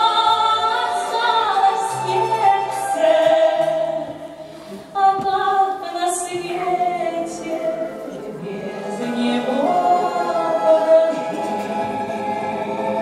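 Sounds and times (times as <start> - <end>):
woman singing into a microphone: 0.0 - 4.3, 4.9 - 13.0
folk instrument orchestra: 0.0 - 13.0.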